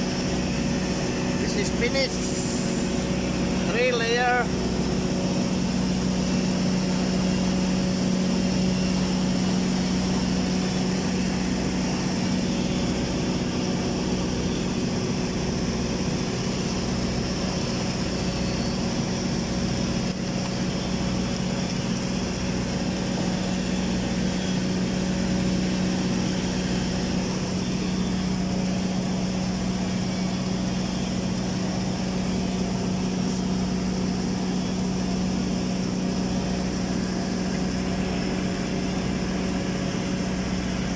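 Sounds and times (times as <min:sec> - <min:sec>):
welding equipment humming: 0:00.0 - 0:38.8.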